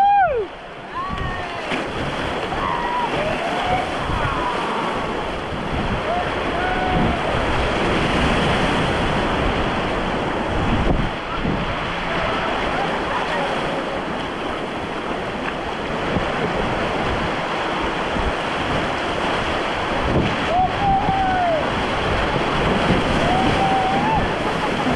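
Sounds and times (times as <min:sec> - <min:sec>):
river water rushing through rapids: 0:00.0 - 0:24.9
wind buffeting microphone: 0:01.0 - 0:24.9.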